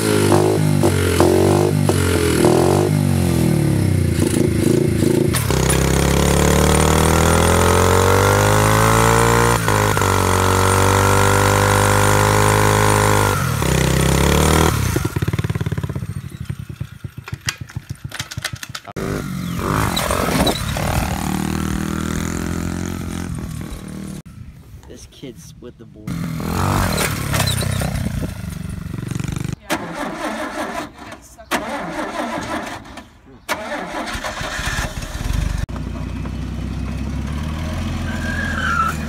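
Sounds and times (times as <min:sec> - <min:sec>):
dirt bike engine revving: 0:00.0 - 0:24.3, 0:26.0 - 0:35.7.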